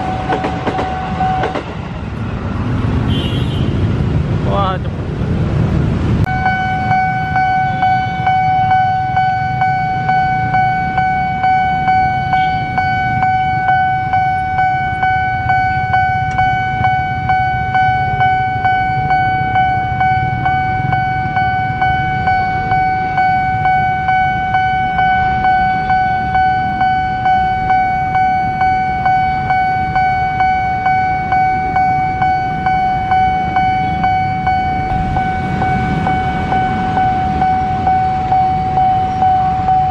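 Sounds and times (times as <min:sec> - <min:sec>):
road traffic rumble: 0:00.0 - 0:39.9
level crossing bell pulsing: 0:06.3 - 0:39.9.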